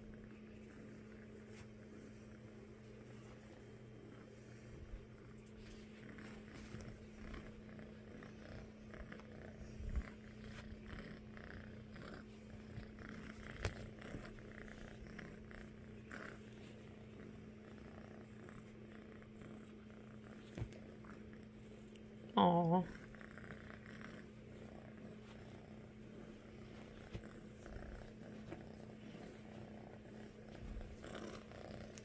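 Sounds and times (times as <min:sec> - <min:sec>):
kitten purring: 0:00.0 - 0:32.0.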